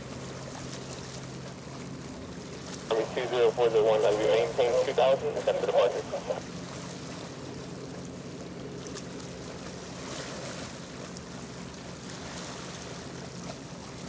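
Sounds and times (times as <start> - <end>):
ship engines humming: 0.0 - 14.0
water rushing: 0.0 - 14.0
wind: 0.0 - 14.0.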